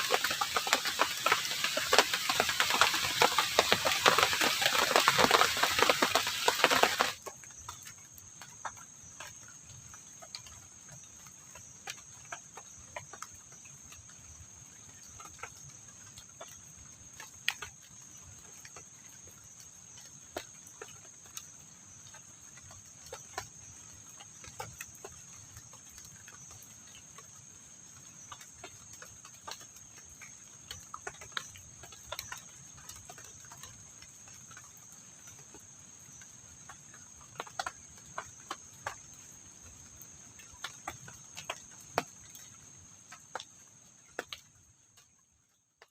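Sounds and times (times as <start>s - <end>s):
crickets trilling: 0.0s - 45.6s.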